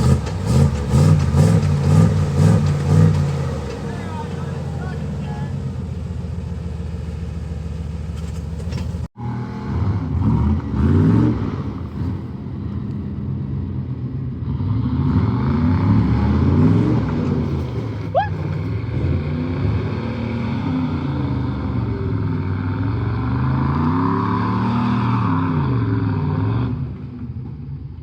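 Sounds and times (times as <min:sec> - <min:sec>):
off-road vehicle engine revving: 0:00.0 - 0:27.4.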